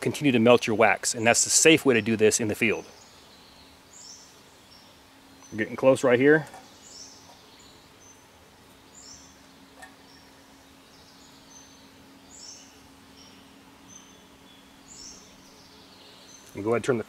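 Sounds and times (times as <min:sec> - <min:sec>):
birds chirping: 0:00.0 - 0:17.0
faint steady hiss and hum: 0:00.0 - 0:17.0.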